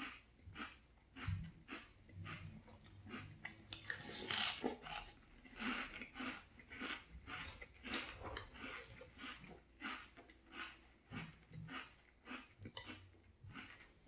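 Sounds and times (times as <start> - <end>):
cereal crunching chews: 0.0 - 14.0.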